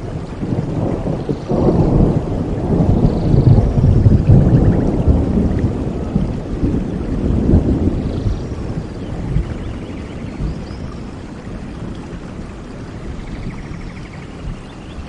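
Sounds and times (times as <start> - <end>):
rolling thunder: 0.0 - 15.0
steady rain: 0.0 - 15.0.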